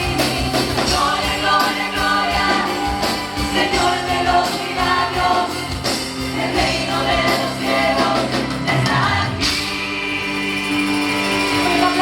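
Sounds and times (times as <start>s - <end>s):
live worship band: 0.0s - 12.0s.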